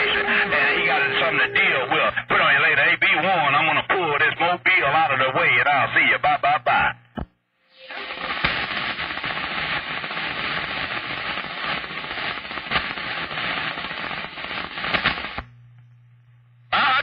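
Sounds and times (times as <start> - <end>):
radio static hiss and crackle: 0.0 - 15.9, 16.6 - 17.0.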